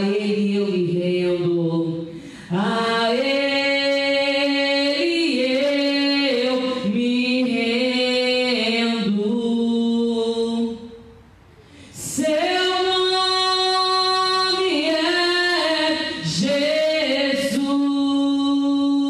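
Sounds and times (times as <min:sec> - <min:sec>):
woman singing into a microphone: 0:00.0 - 0:11.1, 0:11.8 - 0:19.0.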